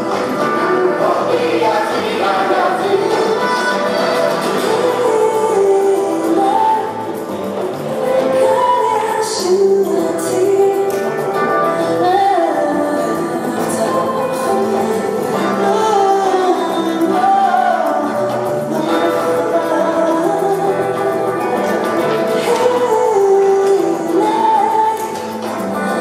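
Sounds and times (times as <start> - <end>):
instrumental backing music: 0.0 - 26.0
woman singing: 0.0 - 26.0.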